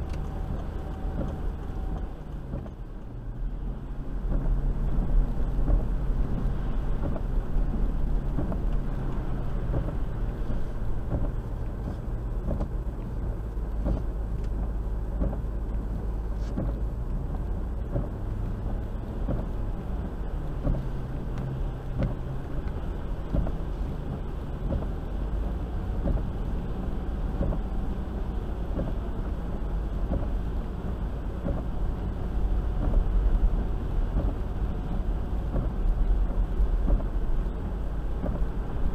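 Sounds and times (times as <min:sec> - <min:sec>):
car engine and tyre rumble: 0:00.0 - 0:38.9
wheels splashing through water: 0:00.0 - 0:38.9.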